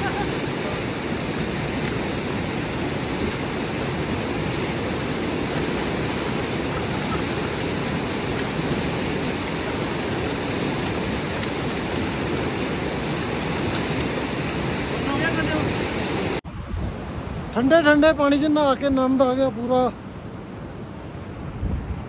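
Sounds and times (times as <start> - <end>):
river rushing: 0.0 - 21.3.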